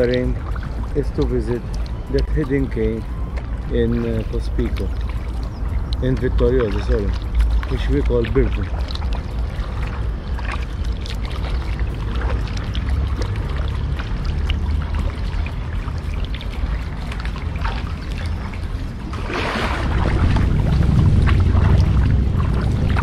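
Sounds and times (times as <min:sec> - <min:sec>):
low rumble: 0:00.0 - 0:23.0
water splashing against kayak hull: 0:00.0 - 0:23.0.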